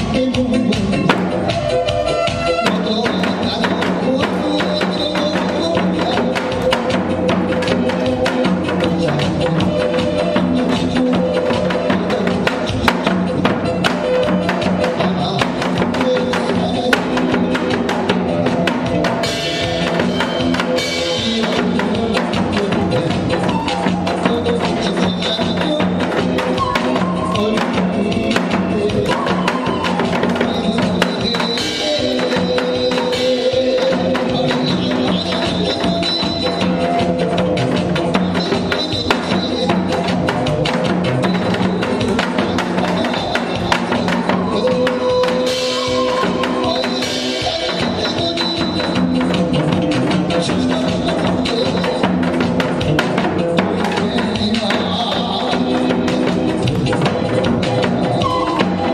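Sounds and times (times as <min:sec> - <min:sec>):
instrumental music with drum beat: 0:00.0 - 0:58.9.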